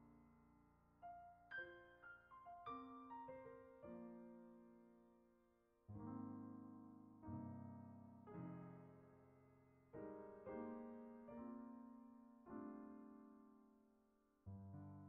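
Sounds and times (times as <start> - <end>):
slow soft piano chords: 0.0 - 15.0.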